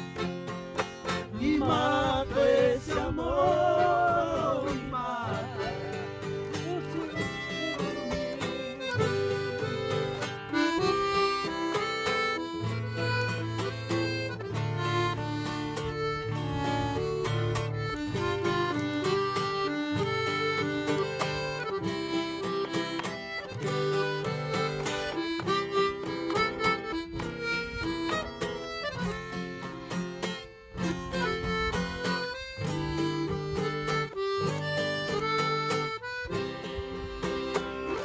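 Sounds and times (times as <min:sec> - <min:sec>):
accordion melody: 0:00.0 - 0:38.0
strummed acoustic guitar: 0:00.0 - 0:38.0.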